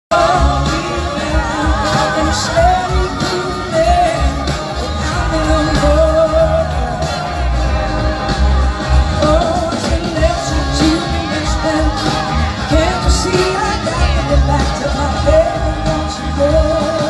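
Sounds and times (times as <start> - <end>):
live blues-rock band with singing: 0.1 - 17.0.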